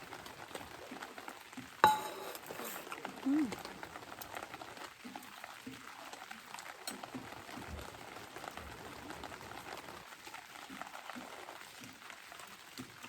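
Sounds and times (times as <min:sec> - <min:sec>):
steady rain: 0:00.0 - 0:01.8, 0:02.4 - 0:13.0.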